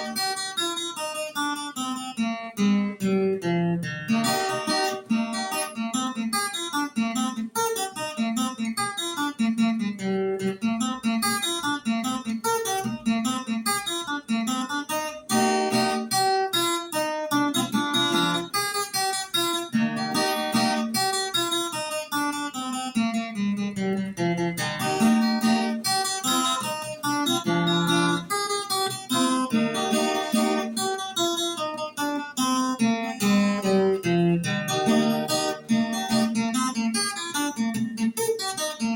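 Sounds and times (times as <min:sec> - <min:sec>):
plucked folk guitar with strumming: 0:00.0 - 0:38.9.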